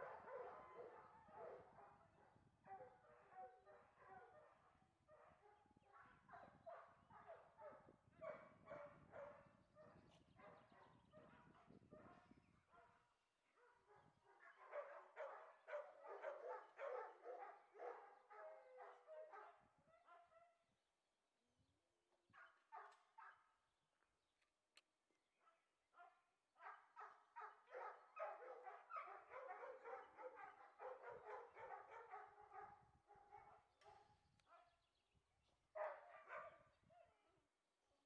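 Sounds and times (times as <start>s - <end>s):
faint dog barking: 0.0s - 20.6s, 22.4s - 23.5s, 25.5s - 34.8s, 35.8s - 37.5s.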